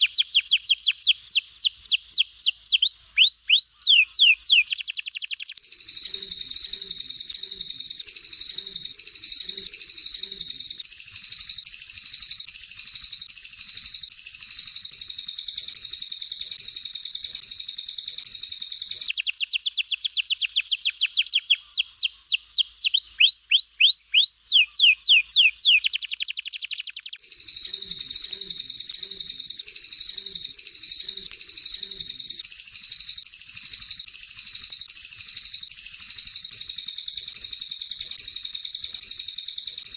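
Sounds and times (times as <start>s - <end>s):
songbird high rapid trill: 0.0s - 39.9s.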